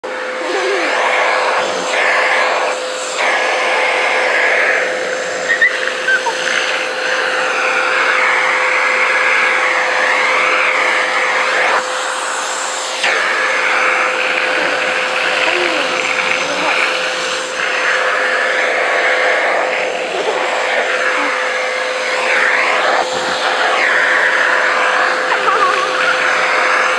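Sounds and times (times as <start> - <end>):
vacuum cleaner whining: 0.0 - 26.9.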